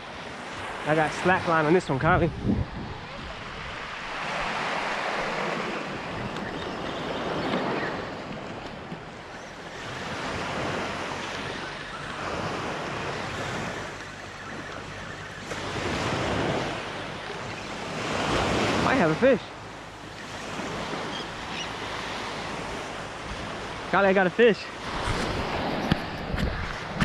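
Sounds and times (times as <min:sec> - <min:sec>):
surf waves washing on beach: 0:00.0 - 0:27.0.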